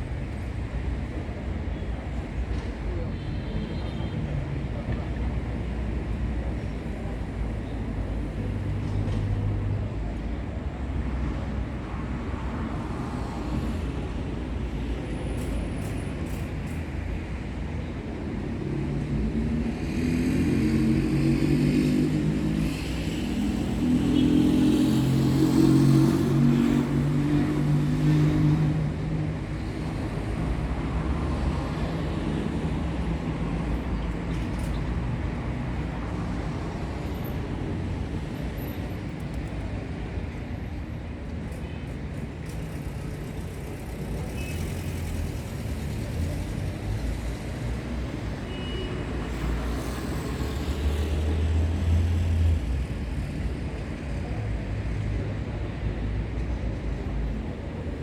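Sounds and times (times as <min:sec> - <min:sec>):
low rumble of road traffic: 0:00.0 - 0:58.0.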